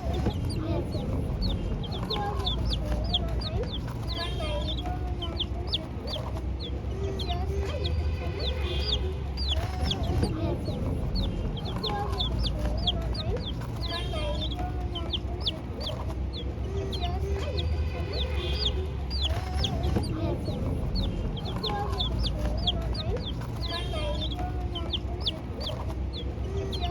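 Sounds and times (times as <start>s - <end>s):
chicks cheeping: 0.0s - 26.9s.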